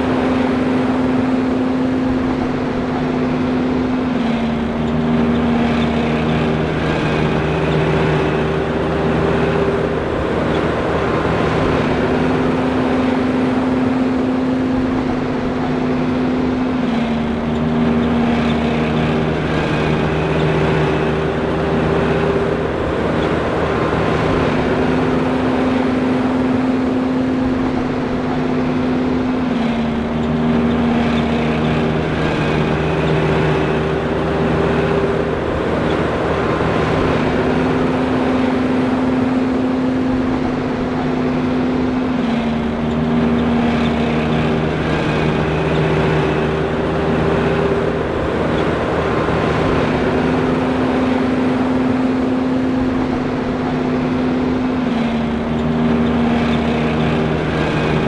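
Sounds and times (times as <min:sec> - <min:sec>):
forage harvester running: 0:00.0 - 0:58.0.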